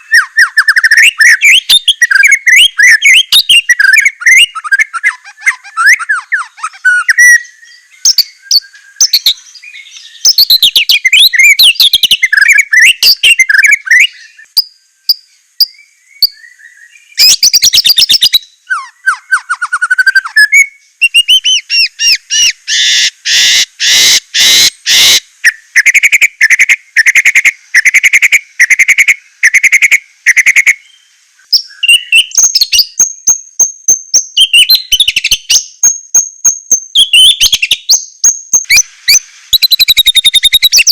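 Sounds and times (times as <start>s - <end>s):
songbird singing whistled phrases: 0.0s - 40.9s.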